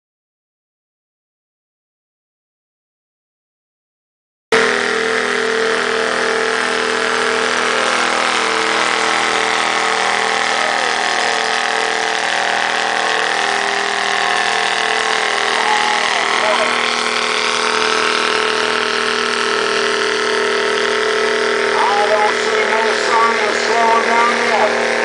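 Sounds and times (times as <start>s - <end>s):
tractor engine running: 4.5s - 25.0s.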